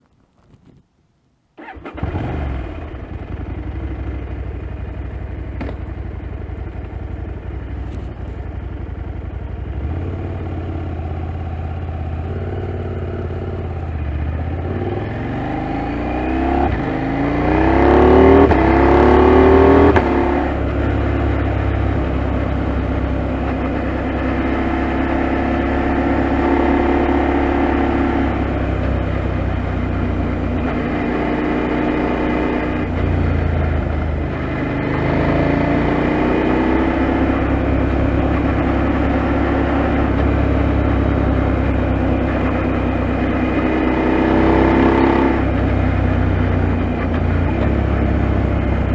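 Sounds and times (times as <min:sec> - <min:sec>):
motorcycle engine revving: 0:01.6 - 0:48.9.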